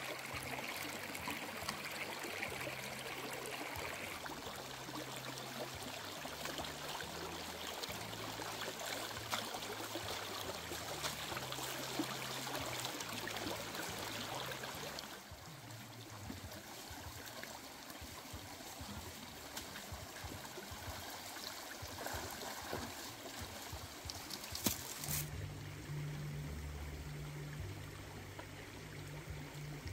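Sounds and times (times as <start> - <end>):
stream running over rocks: 0.0 - 29.9.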